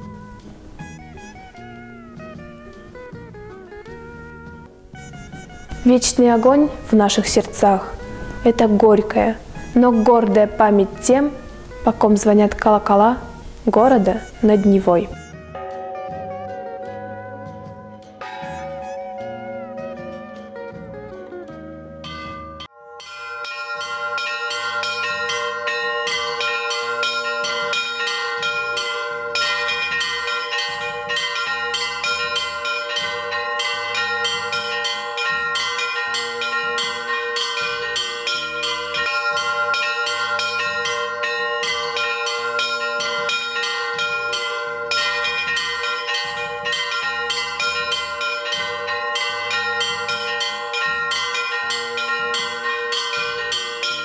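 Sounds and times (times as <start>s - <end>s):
church bells ringing: 5.0s - 54.0s.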